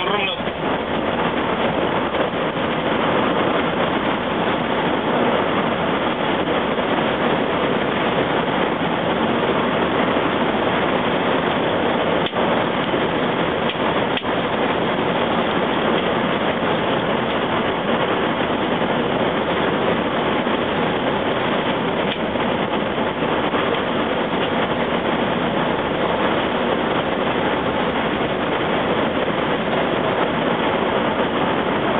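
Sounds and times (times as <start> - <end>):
coach driving on road: 0.0 - 31.9.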